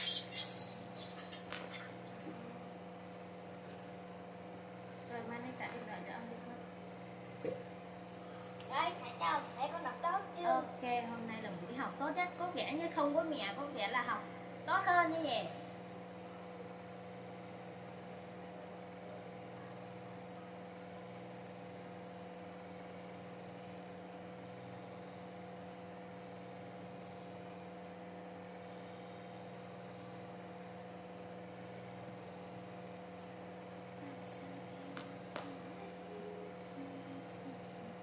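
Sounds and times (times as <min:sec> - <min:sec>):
electrical hum with hiss: 0:00.0 - 0:38.0.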